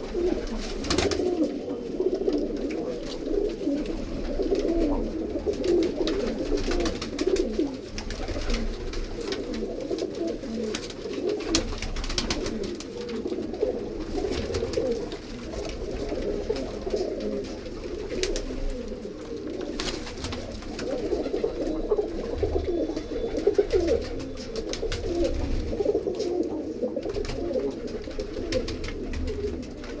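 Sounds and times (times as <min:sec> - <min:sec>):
pigeons cooing: 0:00.0 - 0:30.0.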